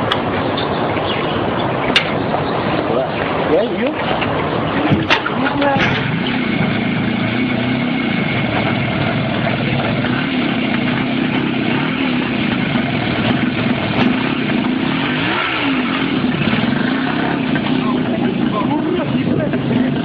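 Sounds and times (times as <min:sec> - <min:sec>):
vehicle engine running: 0:00.0 - 0:20.0
loud rushing noise: 0:01.4 - 0:17.9.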